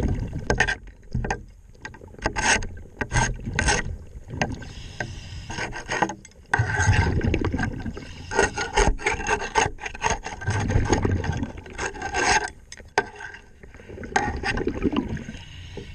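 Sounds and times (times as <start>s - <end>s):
brush scrubbing boat hull underwater: 0.0s - 15.9s.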